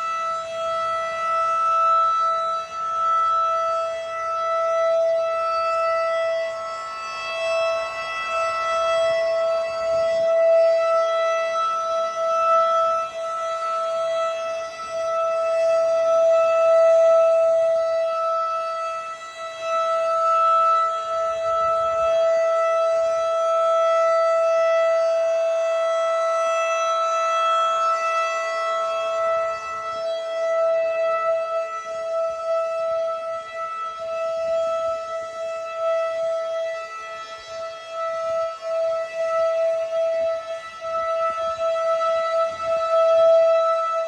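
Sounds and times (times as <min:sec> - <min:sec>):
loud low-pitched warning siren: 0:00.0 - 0:44.0.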